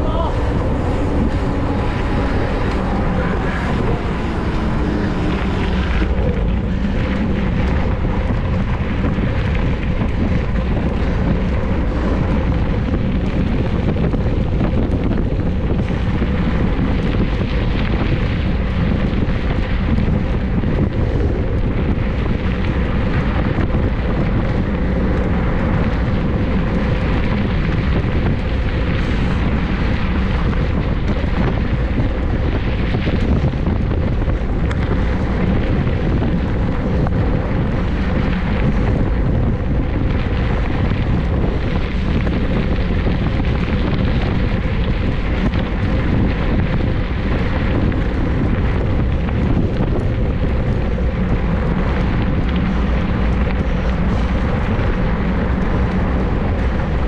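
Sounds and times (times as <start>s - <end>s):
road noise: 0.0s - 57.0s
wind rushing over microphone: 0.0s - 57.0s.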